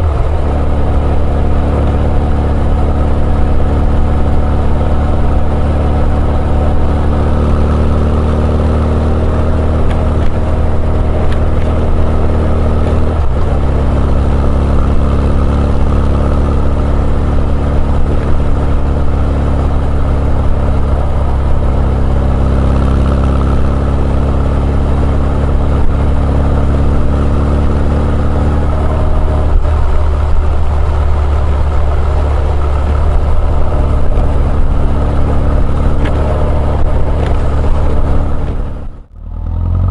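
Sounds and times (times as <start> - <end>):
motorcycle exhaust drone: 0.0 - 39.9.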